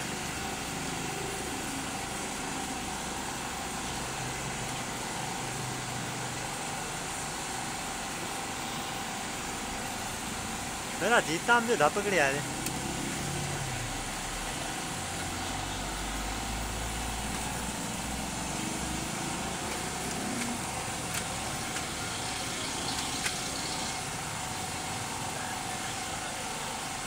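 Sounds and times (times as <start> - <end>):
machine drone with whine and hiss: 0.0 - 27.0.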